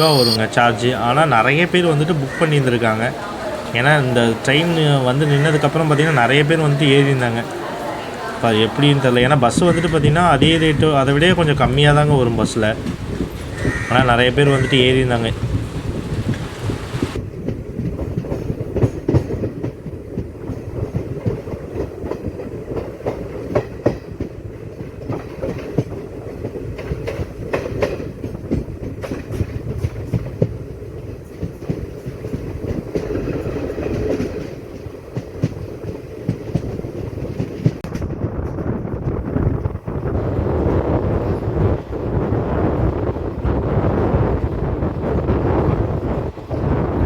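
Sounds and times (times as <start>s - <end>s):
wheels clattering over rail joints: 0.0s - 39.7s
train rumbling on track: 0.0s - 47.0s.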